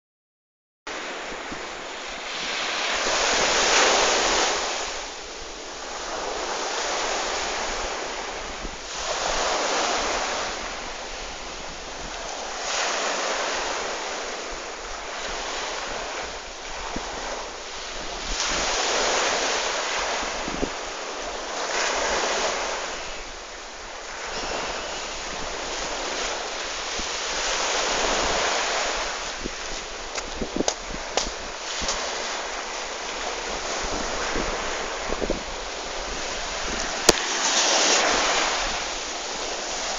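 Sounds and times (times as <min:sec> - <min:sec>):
surf washing onto shore: 0:00.9 - 0:39.9.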